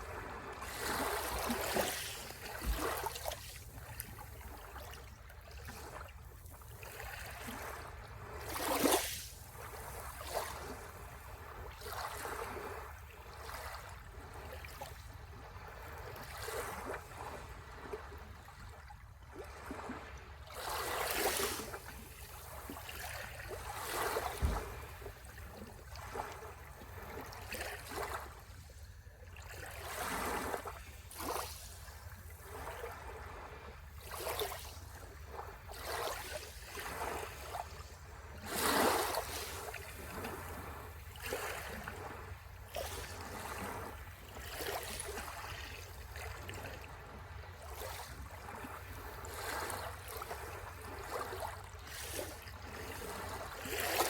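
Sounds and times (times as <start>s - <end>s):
small waves washing onto shore: 0.0s - 18.8s, 19.4s - 54.0s.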